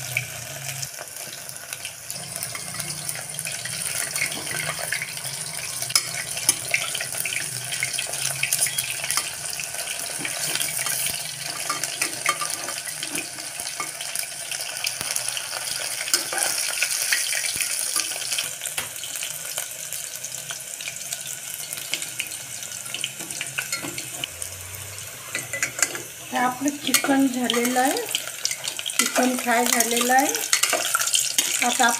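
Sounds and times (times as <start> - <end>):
food sizzling in hot oil: 0.0 - 31.9.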